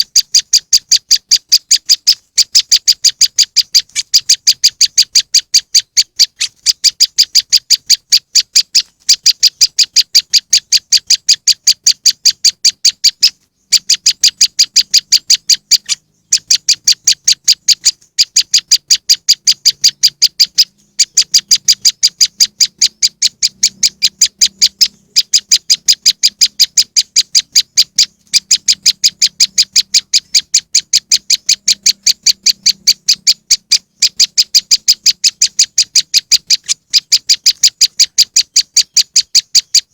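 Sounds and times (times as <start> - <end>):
bird rapid high-pitched chattering: 0.0 - 39.9.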